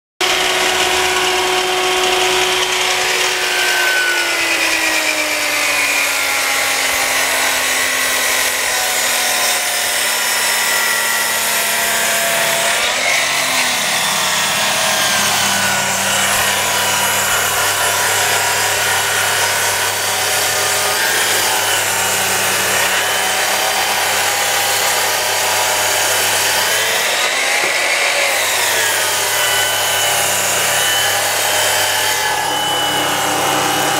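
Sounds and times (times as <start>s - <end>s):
table saw motor whining: 0.2s - 33.9s.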